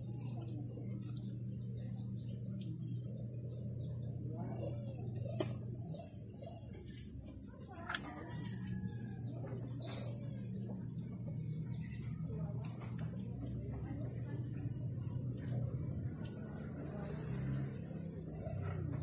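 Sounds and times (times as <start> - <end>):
low hum: 0.0 - 19.0
steady high-pitched drone: 0.0 - 19.0.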